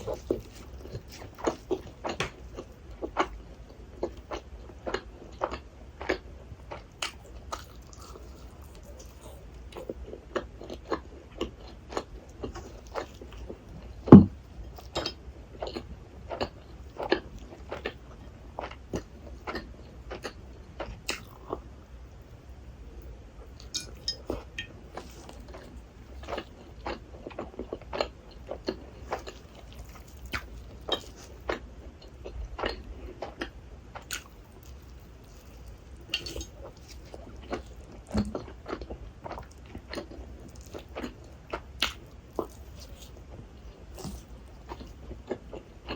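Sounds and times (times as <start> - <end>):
close chewing mouth sounds: 0.0 - 21.7, 23.5 - 45.9.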